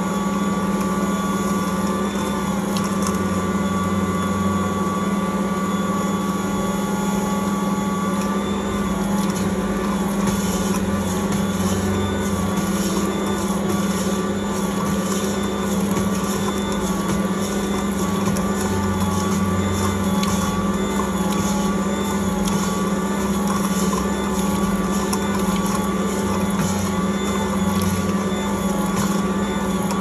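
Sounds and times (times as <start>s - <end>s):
stand mixer humming: 0.0s - 30.0s.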